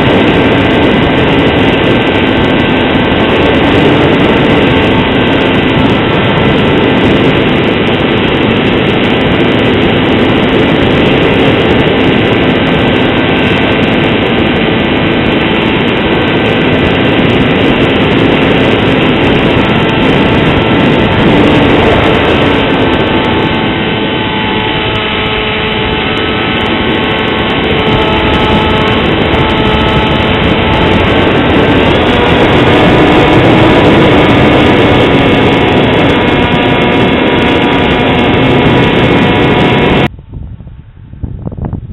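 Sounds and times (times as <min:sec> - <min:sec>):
electric motor propeller whine: 0:00.0 - 0:40.1
wind rush: 0:00.0 - 0:41.9.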